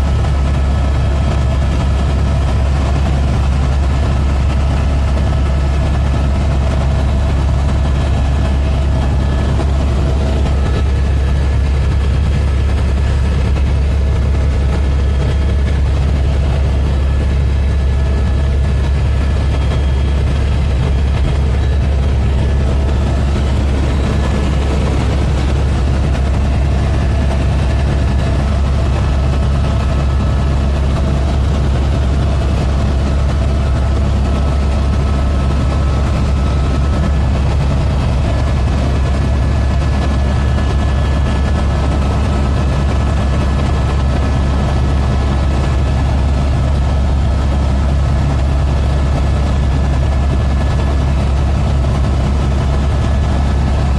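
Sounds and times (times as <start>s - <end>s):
helicopter drone: 0.0s - 53.9s.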